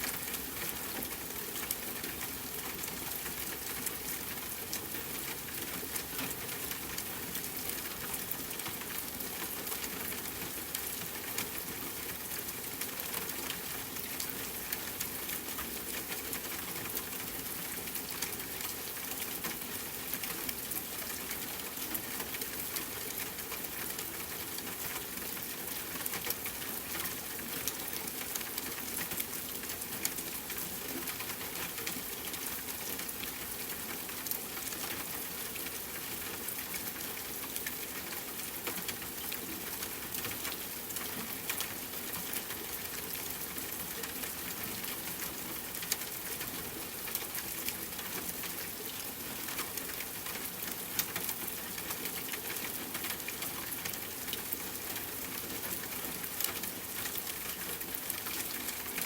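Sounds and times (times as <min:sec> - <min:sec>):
rain falling on a tent: 0:00.0 - 0:59.0.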